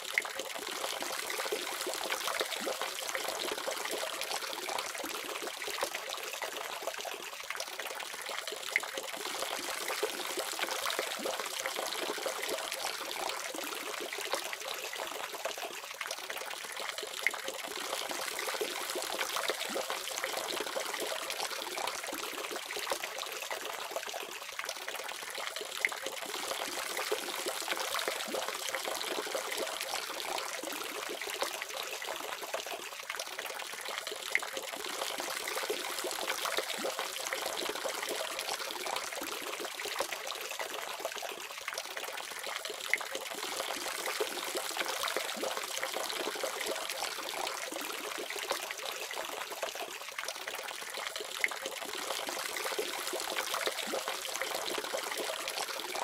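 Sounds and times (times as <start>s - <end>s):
water trickling from faucet: 0.0s - 56.0s.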